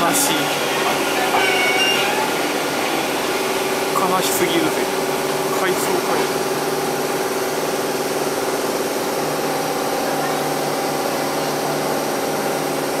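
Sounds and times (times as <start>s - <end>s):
electric train equipment humming: 0.0s - 13.0s.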